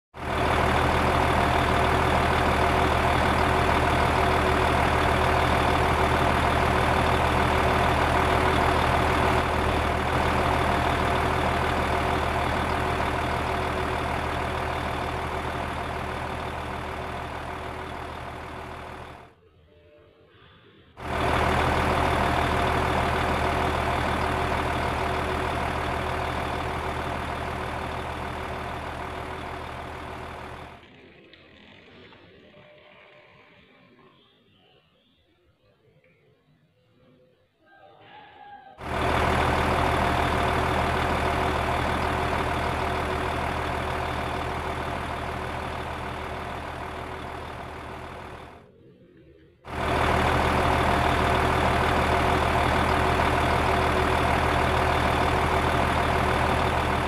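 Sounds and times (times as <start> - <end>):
truck engine idling: 0.1 - 19.4, 21.0 - 31.0, 38.8 - 48.8, 49.7 - 57.0.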